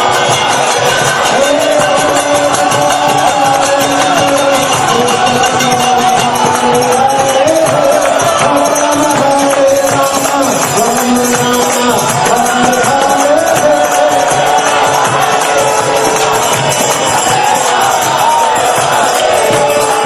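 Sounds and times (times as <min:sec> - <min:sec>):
dense percussion beat: 0:00.0 - 0:20.0
devotional melodic singing: 0:00.0 - 0:20.0.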